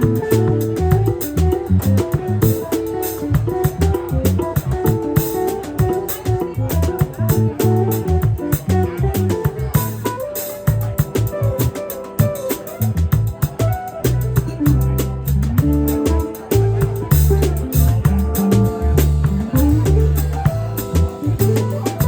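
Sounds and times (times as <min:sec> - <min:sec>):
bass line: 0:00.0 - 0:22.0
drums and cymbals: 0:00.0 - 0:22.0
guitar: 0:00.0 - 0:22.0.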